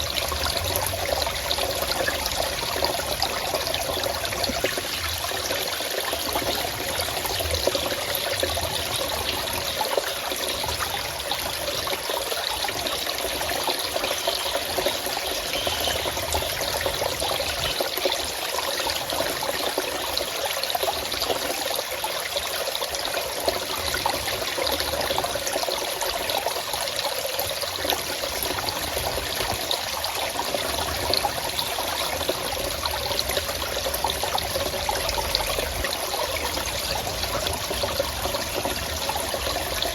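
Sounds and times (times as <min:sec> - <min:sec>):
stream flowing water: 0:00.0 - 0:39.9.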